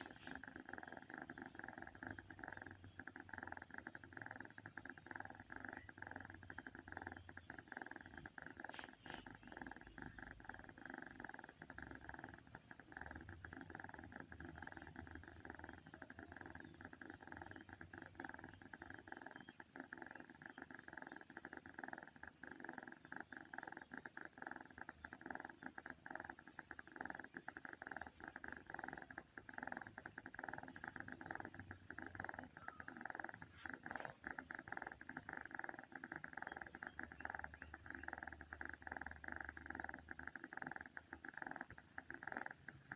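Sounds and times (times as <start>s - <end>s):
snoring: 0.0s - 42.9s.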